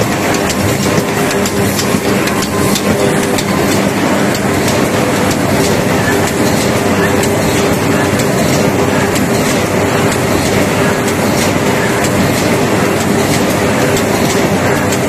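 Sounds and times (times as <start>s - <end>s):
low machine hum: 0.0s - 15.0s
machine clattering: 0.0s - 15.0s.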